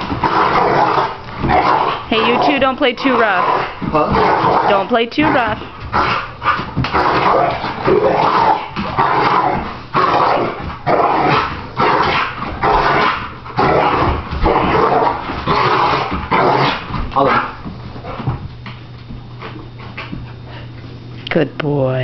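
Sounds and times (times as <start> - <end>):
dog growling and barking: 0.0 - 18.4.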